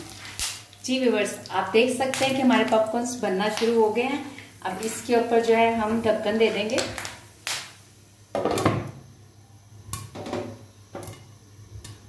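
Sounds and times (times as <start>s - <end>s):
popcorn popping: 0.0s - 9.0s, 9.9s - 12.0s.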